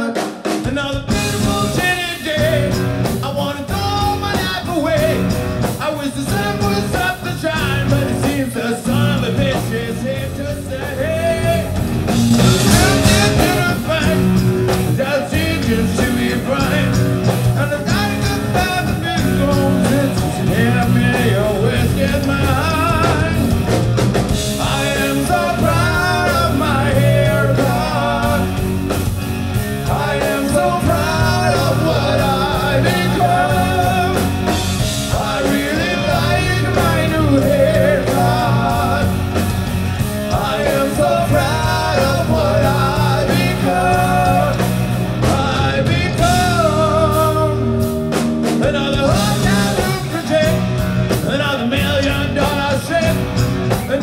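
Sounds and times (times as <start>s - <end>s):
person singing: 0.0s - 23.7s, 24.4s - 28.7s, 29.7s - 39.5s, 40.2s - 54.0s
drums: 0.0s - 54.0s
electric guitars: 0.0s - 54.0s
bass: 0.6s - 54.0s.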